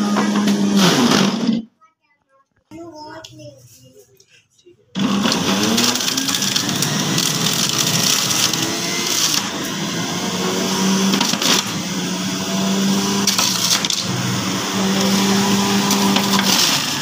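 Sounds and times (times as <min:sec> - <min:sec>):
electric juicer motor humming: 0:00.0 - 0:01.6, 0:05.0 - 0:17.0.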